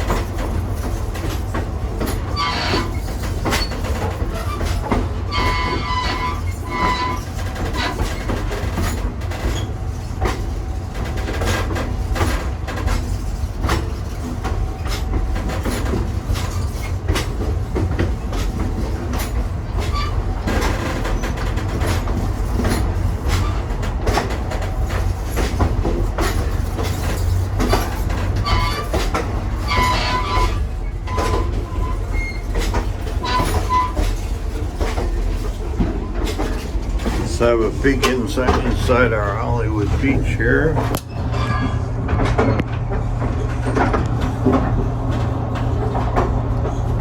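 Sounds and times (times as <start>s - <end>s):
railcar rumble: 0.0s - 47.0s.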